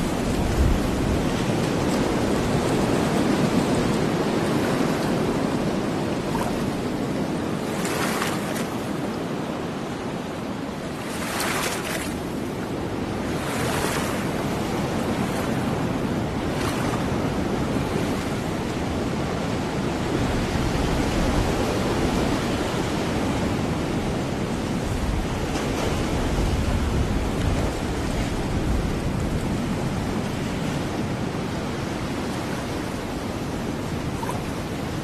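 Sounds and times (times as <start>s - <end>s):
surf breaking on a beach: 0.0s - 35.0s
wind rumbling on microphone: 0.0s - 35.0s.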